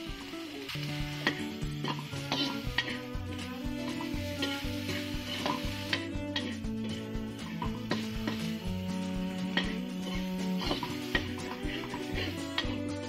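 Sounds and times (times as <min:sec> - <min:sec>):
background music with held notes: 0:00.0 - 0:13.0
food sizzling: 0:00.0 - 0:13.0
metal spatula scraping a wok: 0:00.6 - 0:13.0.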